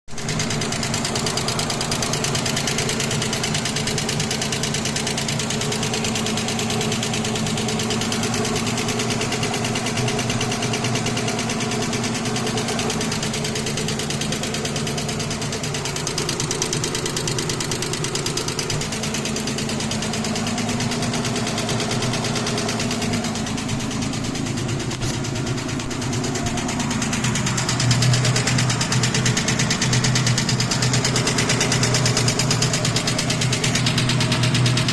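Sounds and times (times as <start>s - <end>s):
engine running with rapid knock: 0.1s - 34.9s.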